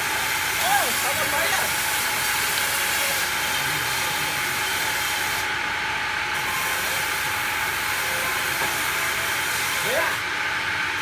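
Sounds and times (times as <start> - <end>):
wood-cutting machine whining: 0.0 - 11.0.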